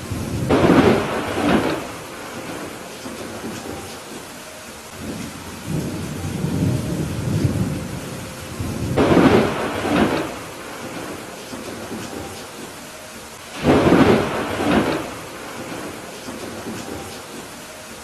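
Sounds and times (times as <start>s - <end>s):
thunder rumbling and clapping: 0.0s - 3.8s, 5.0s - 12.4s, 13.6s - 17.2s
steady rain: 0.0s - 18.0s.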